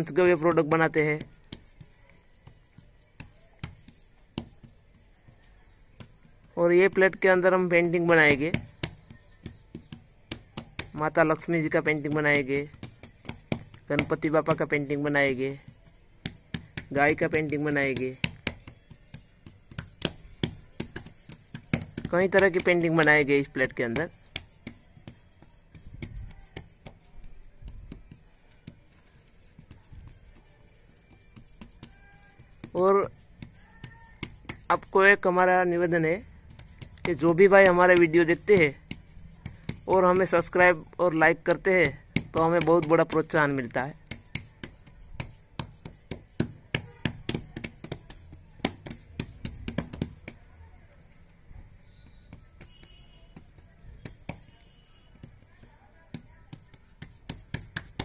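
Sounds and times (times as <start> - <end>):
hands patting cow dung: 0.0 - 50.4, 52.0 - 55.5, 56.1 - 58.0.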